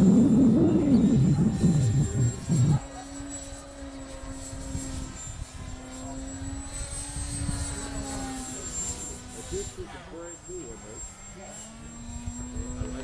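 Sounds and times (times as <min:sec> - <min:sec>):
wind rumbling on microphone: 0:00.0 - 0:10.2, 0:11.7 - 0:13.0
model plane motor droning: 0:00.0 - 0:13.0.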